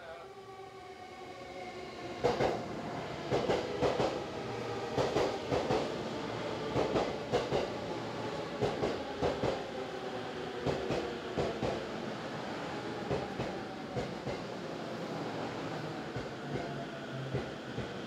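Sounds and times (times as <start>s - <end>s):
train rolling hum: 0.3s - 18.0s.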